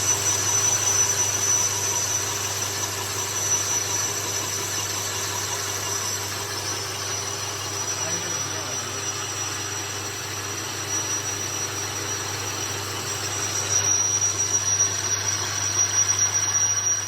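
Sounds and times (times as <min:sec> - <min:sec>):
metal-cutting machine cutting rod: 0:00.0 - 0:17.0.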